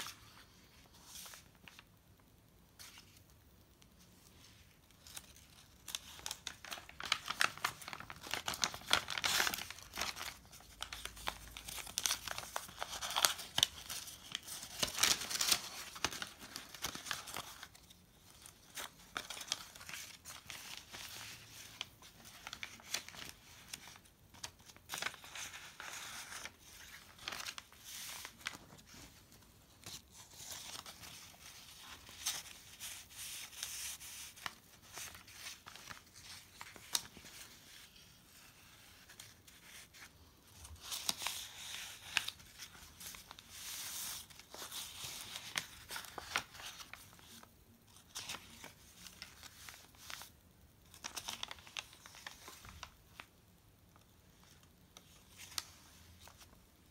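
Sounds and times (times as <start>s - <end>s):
paper rustling and crinkling: 0.0s - 1.9s, 2.7s - 56.9s.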